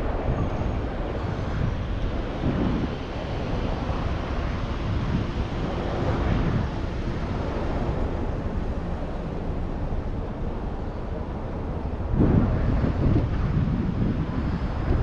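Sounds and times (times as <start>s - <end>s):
street traffic rumble: 0.0s - 15.0s
wind buffeting microphone: 0.0s - 15.0s.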